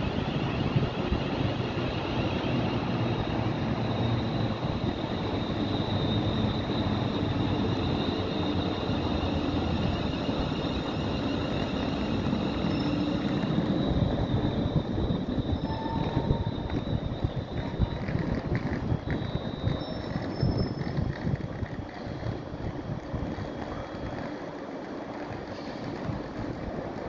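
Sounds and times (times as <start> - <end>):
train wheels on rail: 0.0 - 27.0.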